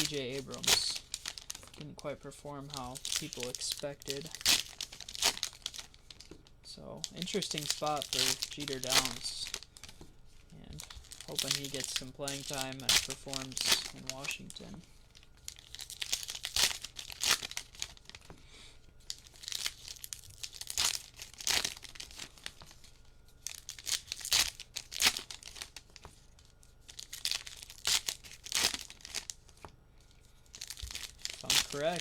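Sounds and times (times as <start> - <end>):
foil wrappers tearing and crinkling: 0.0 - 6.2, 7.0 - 10.0, 10.6 - 14.8, 15.4 - 18.3, 19.1 - 32.0.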